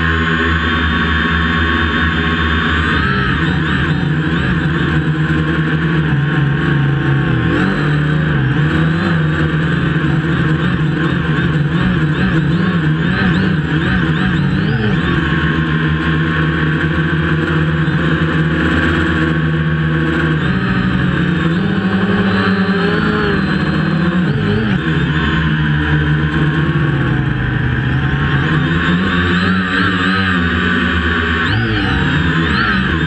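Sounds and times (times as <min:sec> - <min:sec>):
drone motors and propellers whirring: 0:00.0 - 0:33.0.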